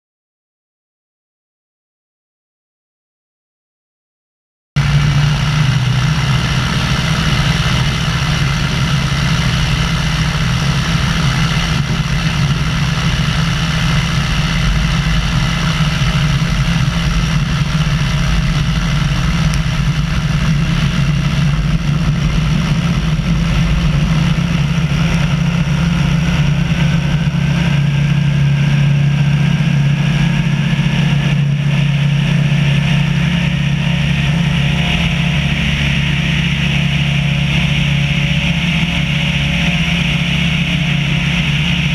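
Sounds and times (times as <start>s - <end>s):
light aircraft engine droning: 4.8s - 41.9s
wind rush on camera: 4.8s - 41.9s.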